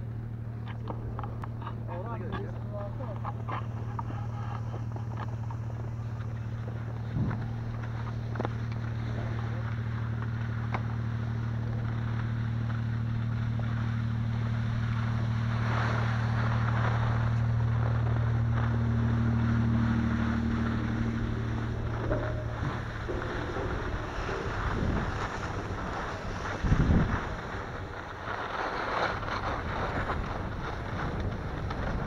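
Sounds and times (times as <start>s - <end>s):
low drone: 0.0s - 32.0s
skis scraping over crunchy snow: 0.7s - 32.0s
wind on microphone: 0.8s - 32.0s.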